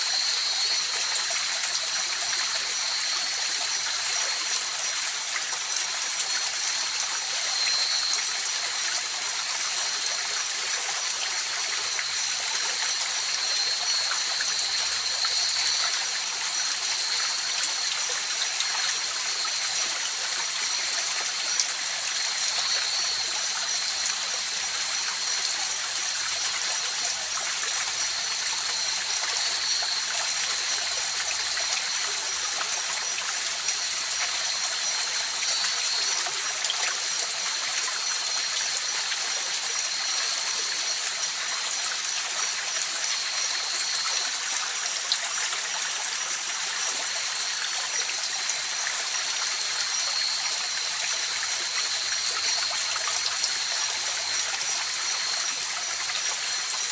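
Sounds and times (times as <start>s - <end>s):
stream flowing over rocks: 0.0s - 56.9s.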